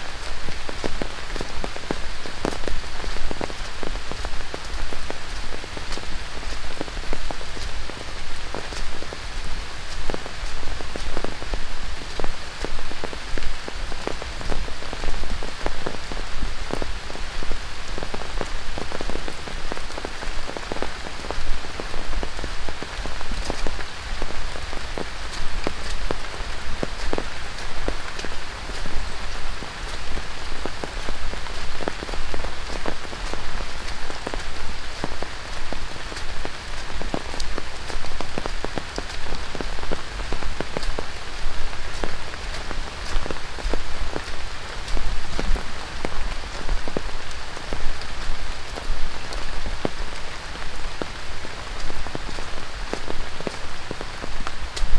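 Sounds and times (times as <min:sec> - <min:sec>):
heavy rain on foliage: 0:00.0 - 0:54.9
close raindrop impacts: 0:00.1 - 0:54.9.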